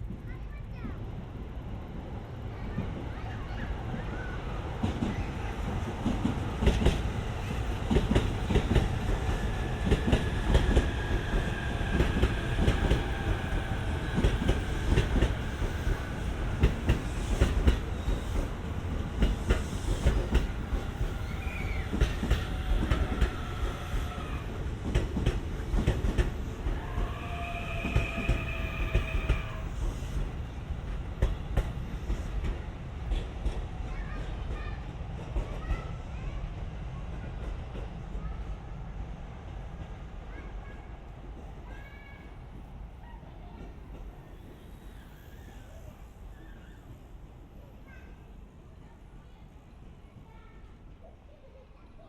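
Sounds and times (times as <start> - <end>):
train wheels clickety-clack: 2.5 - 46.8.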